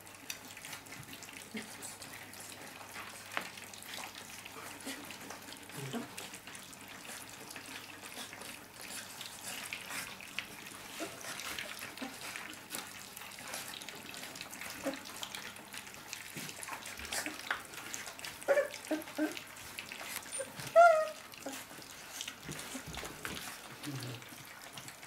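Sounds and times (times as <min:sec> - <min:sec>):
puppies lapping food: 0:00.0 - 0:25.0.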